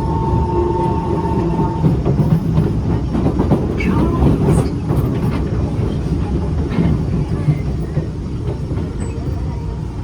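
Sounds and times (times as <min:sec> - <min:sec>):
metro train rumble: 0:00.0 - 0:10.0
wheels clacking over rails: 0:00.9 - 0:09.5.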